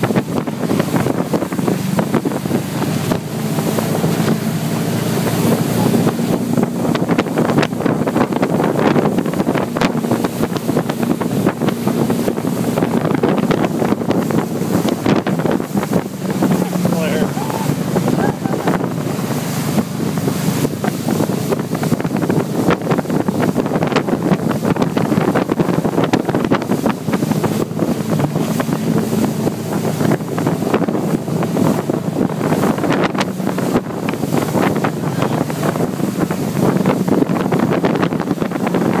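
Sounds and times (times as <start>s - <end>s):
churning wake water: 0.0s - 39.0s
motorboat engine hum: 0.0s - 39.0s
wind buffeting microphone: 0.0s - 39.0s.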